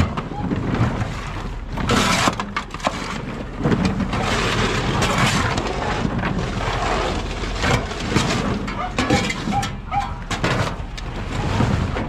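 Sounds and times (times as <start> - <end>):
hoe and broom scraping truck bed: 1.8 - 12.0.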